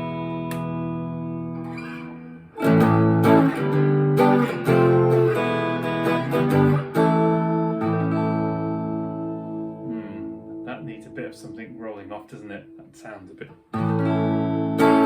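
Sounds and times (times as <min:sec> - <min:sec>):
clean electric guitar strumming: 0:00.0 - 0:15.0.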